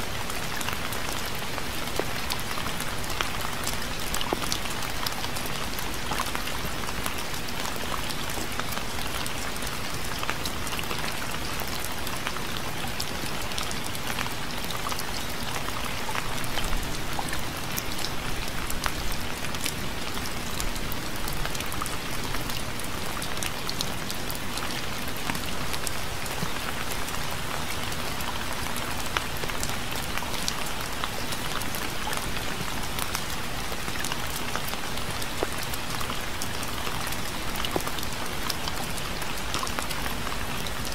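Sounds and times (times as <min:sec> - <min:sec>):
hiss of rainfall: 0:00.0 - 0:40.9
raindrops ticking on a surface: 0:00.0 - 0:40.9.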